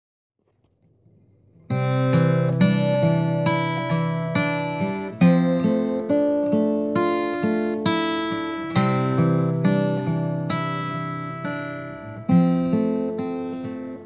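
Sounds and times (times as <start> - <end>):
acoustic guitar strumming: 1.6 - 14.0.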